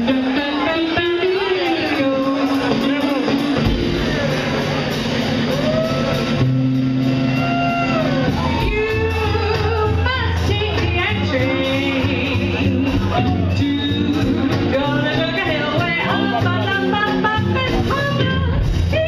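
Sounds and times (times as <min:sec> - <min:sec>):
jazz band playing swing: 0:00.0 - 0:19.0.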